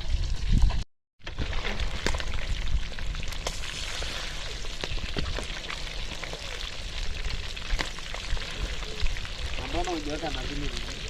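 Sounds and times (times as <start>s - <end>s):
fish frying in hot oil: 1.2s - 11.0s.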